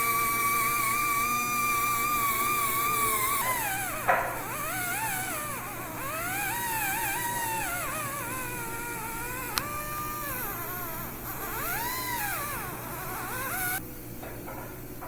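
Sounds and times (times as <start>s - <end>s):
dental drill whining: 0.0s - 13.8s.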